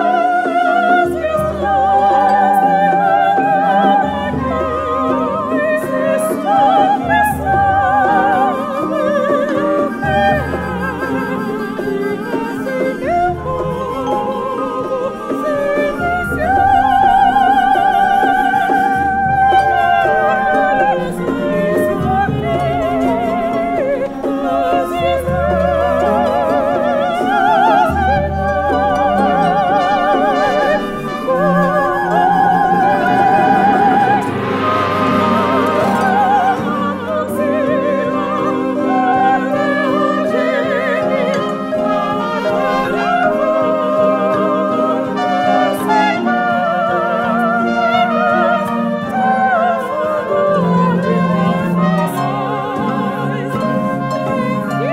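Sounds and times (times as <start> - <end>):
small instrumental ensemble: 0.0 - 54.9
women singing opera: 0.0 - 54.9.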